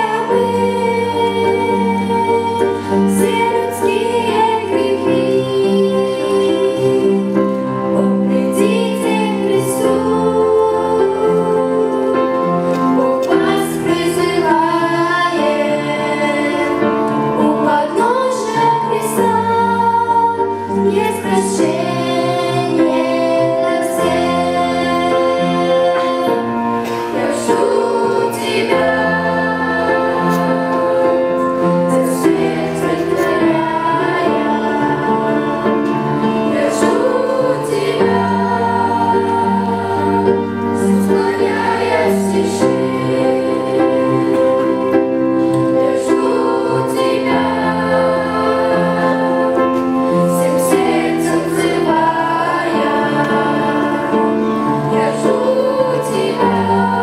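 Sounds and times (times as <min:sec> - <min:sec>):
children's choir singing: 0:00.0 - 0:57.0
instrumental accompaniment with bass: 0:00.0 - 0:57.0.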